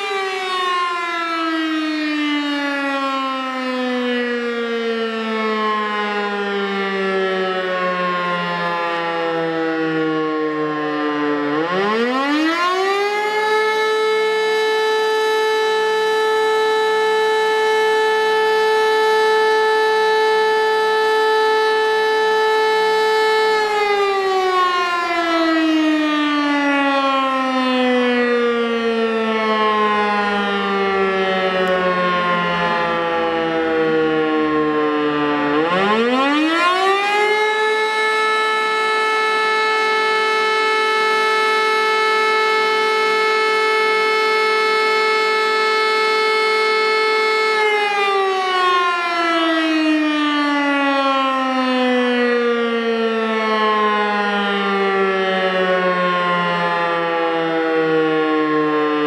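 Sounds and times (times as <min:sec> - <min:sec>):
rotary siren wailing: 0:00.0 - 0:59.0.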